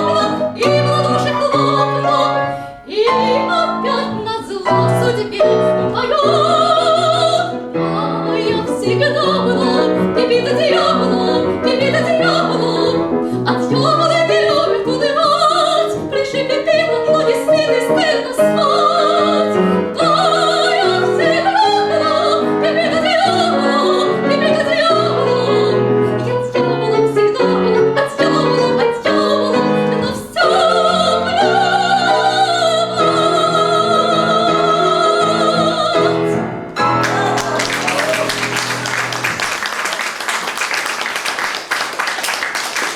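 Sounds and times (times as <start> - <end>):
soprano singing an aria: 0.0 - 38.9
piano accompaniment: 0.0 - 42.9.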